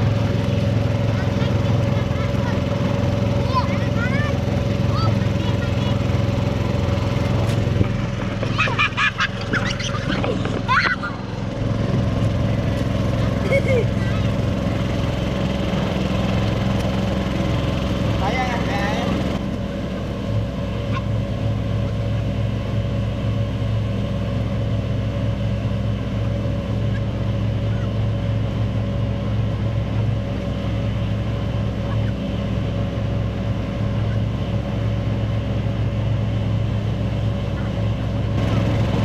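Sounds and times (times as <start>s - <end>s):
small engine running steadily: 0.0s - 39.0s.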